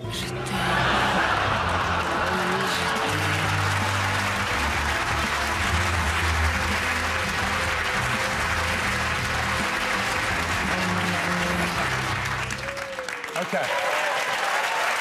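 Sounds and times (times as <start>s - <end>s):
music with held low notes: 0.0s - 12.7s
studio audience applauding: 0.4s - 15.0s.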